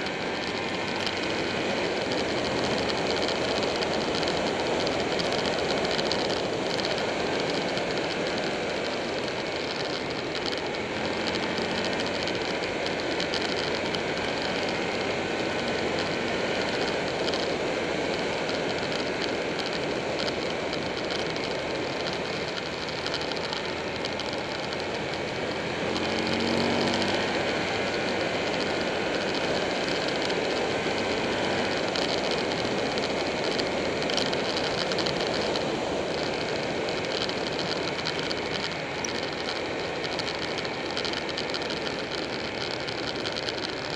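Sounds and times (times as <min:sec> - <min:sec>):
motorcycle engine at speed: 0:00.0 - 0:43.9
wind and road noise: 0:00.0 - 0:43.9.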